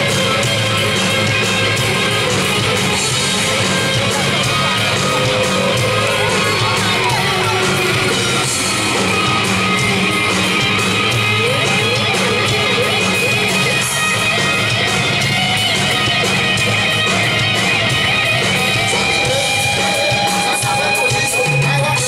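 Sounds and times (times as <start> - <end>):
electric guitar bending notes: 0.0 - 22.0
live rock band playing: 0.0 - 22.0.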